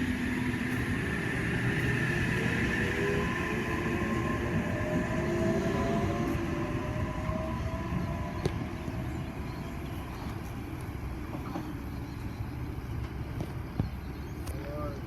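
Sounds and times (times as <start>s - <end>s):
train traction motors whining: 0.0s - 15.0s
wheels rumbling on rail: 0.0s - 15.0s.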